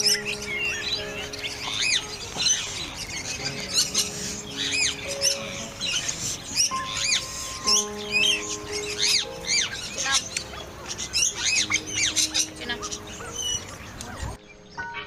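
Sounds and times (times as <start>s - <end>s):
background music with sustained chords: 0.0s - 15.0s
birds chirping: 0.0s - 15.0s.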